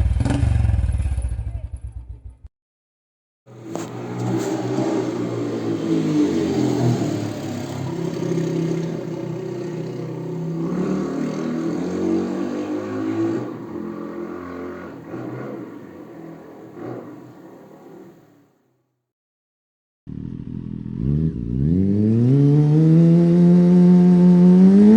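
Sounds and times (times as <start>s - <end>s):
motorcycle engine revving: 0.0s - 2.1s, 3.5s - 18.5s, 20.1s - 24.9s.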